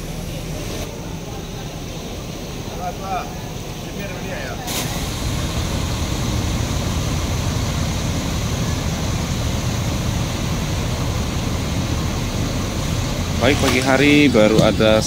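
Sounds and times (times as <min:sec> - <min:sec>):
bus diesel engines rumbling: 0:00.0 - 0:15.0
noise haze: 0:00.0 - 0:15.0.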